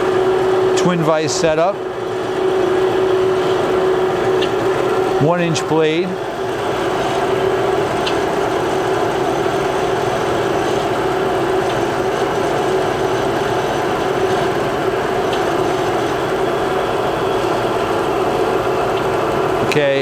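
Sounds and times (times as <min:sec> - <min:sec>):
bandsaw mechanical hum: 0:00.0 - 0:20.0.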